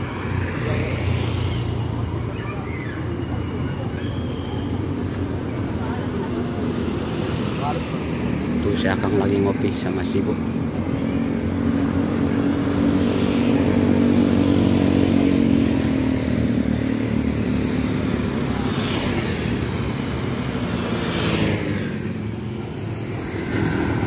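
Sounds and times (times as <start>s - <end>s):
vehicle engines running: 0.0s - 24.0s
vehicles passing whoosh: 0.0s - 24.0s.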